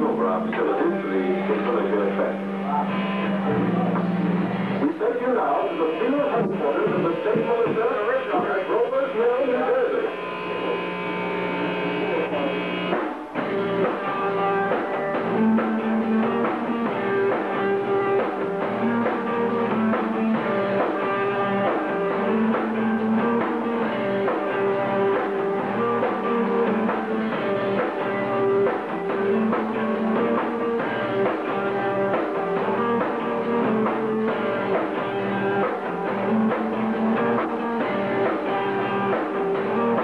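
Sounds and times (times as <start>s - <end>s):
electric guitar riff: 0.0s - 40.0s
live rock band playing: 0.0s - 40.0s.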